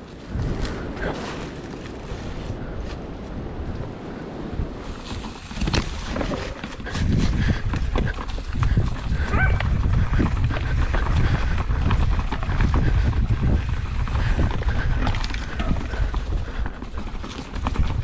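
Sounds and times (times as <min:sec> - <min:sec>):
bike rattling over rough trail: 0:00.0 - 0:18.0
wind rumble on microphone: 0:00.0 - 0:18.0.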